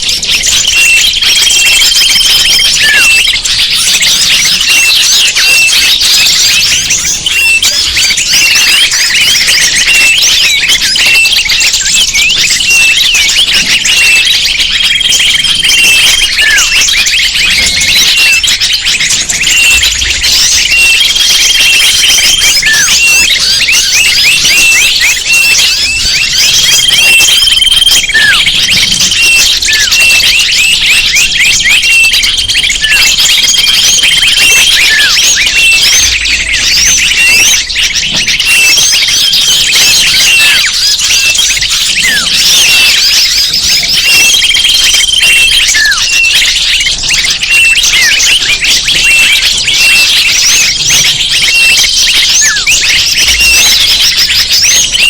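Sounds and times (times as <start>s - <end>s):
high bird whistle: 0.0s - 55.0s
small birds chirping: 0.0s - 55.0s.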